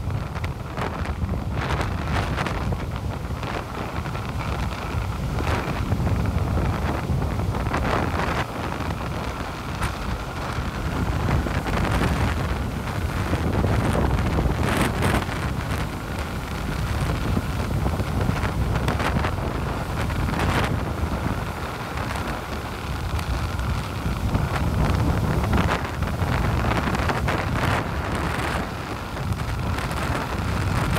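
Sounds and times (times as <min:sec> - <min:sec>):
surf breaking on beach: 0:00.0 - 0:30.9
wind buffeting microphone: 0:00.0 - 0:30.9.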